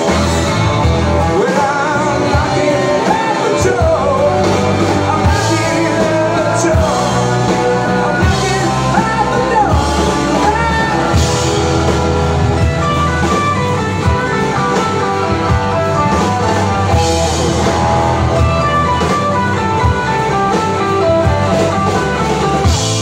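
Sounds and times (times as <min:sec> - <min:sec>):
drum kit beat: 0:00.0 - 0:23.0
electric guitar: 0:00.0 - 0:23.0
keyboard held notes: 0:00.0 - 0:23.0.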